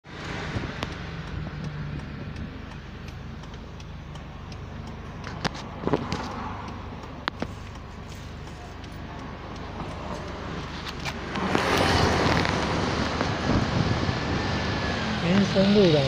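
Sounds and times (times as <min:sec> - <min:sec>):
car engine humming: 0:00.0 - 0:16.0
sharp clicks: 0:00.5 - 0:13.4.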